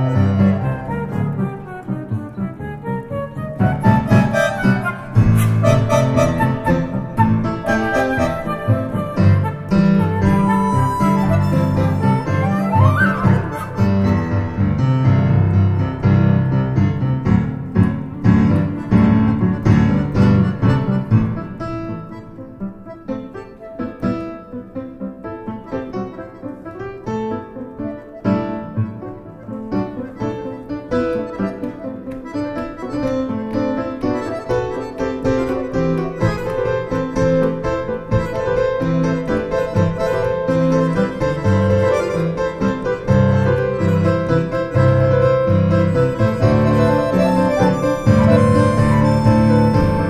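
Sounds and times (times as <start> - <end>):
improvised piano playing: 0.0 - 50.0.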